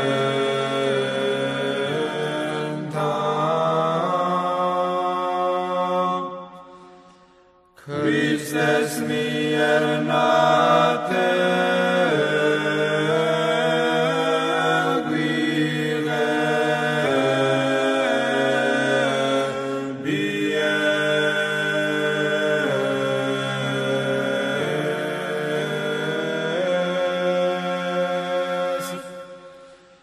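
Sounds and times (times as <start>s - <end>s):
unaccompanied choir chanting: 0.0s - 7.2s, 7.8s - 30.0s.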